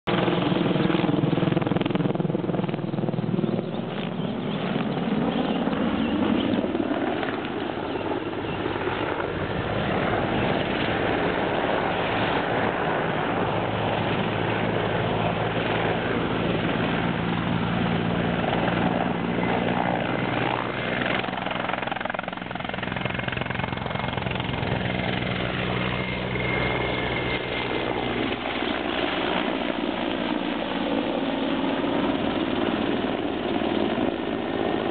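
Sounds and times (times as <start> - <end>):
helicopter rotor beat: 0.0 - 34.9
turbine engine whine: 0.1 - 34.9.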